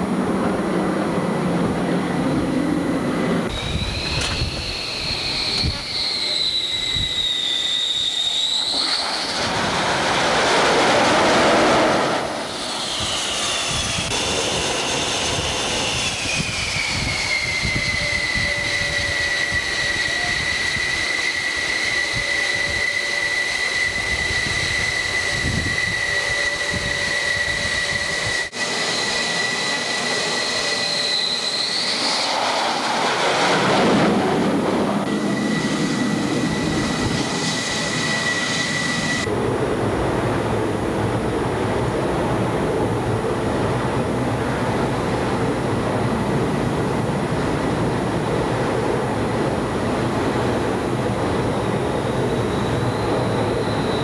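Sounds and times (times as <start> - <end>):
jet engine whine: 0.0 - 54.0
jet exhaust rush: 0.0 - 54.0.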